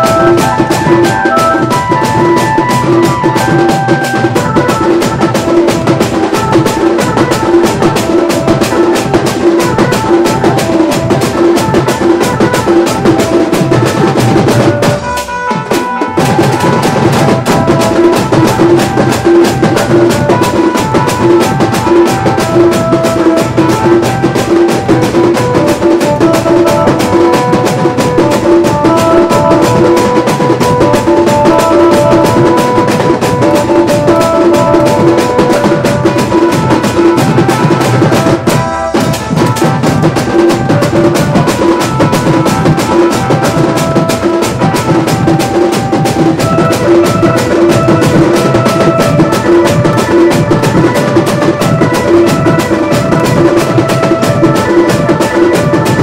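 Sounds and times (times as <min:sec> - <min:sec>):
band music: 0:00.0 - 0:56.0
loud drums beating: 0:00.0 - 0:56.0.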